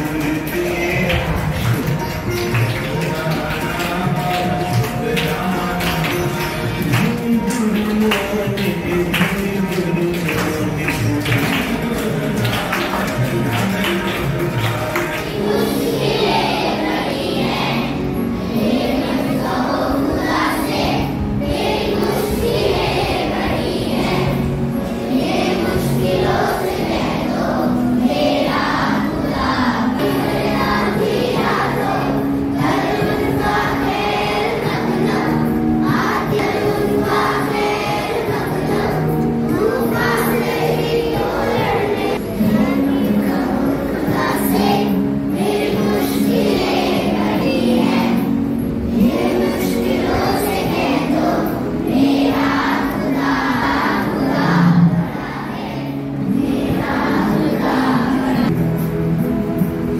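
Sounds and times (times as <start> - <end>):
children singing a prayer song: 9.6 - 58.5.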